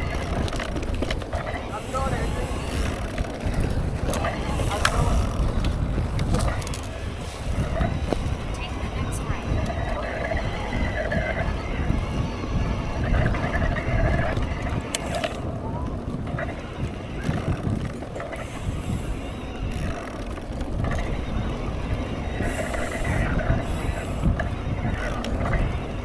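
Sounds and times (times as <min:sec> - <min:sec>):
bike freehub ratchet clicking: 0:00.0 - 0:26.0
bike rattling: 0:00.0 - 0:26.0.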